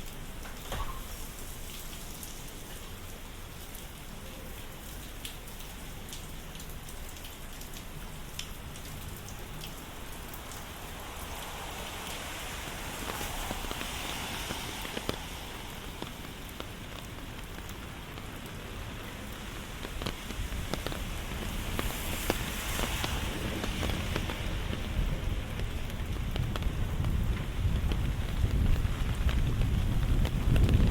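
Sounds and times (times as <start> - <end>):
raindrops ticking: 0.0 - 30.9
steady rain hissing: 0.0 - 30.9.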